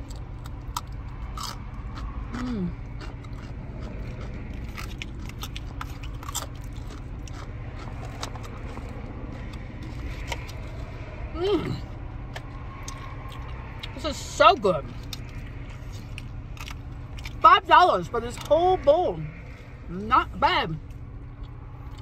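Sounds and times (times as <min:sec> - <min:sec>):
chewing and crunching food: 0:00.0 - 0:19.8, 0:20.8 - 0:22.0
low hum: 0:00.0 - 0:22.0.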